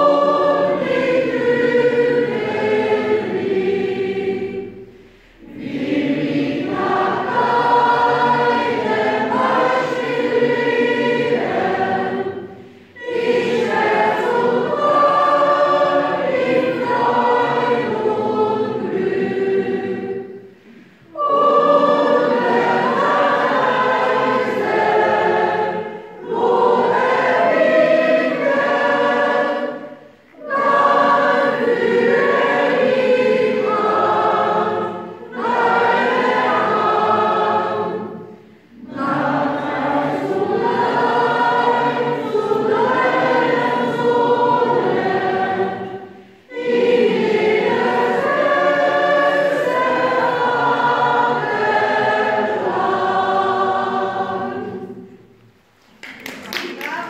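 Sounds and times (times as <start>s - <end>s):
mixed choir singing: 0.0s - 56.9s.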